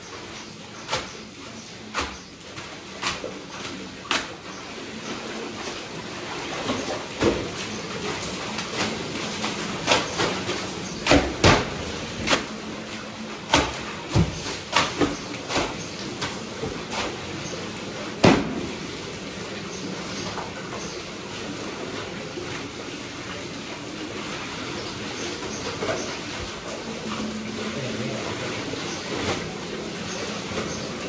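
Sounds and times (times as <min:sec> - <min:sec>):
water rushing and splashing: 0:00.0 - 0:31.0.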